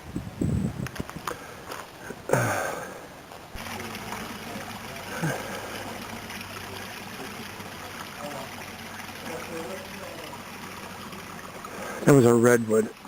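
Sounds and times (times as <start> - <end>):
water running: 2.0 - 13.0.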